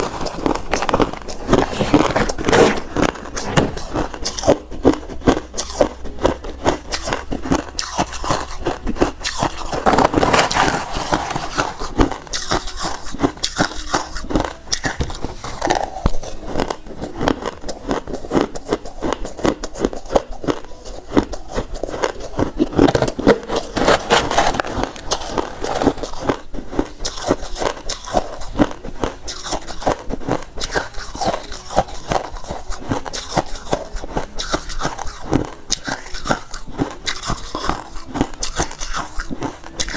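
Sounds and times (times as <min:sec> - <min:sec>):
crunching ice chewing: 0:00.0 - 0:39.9.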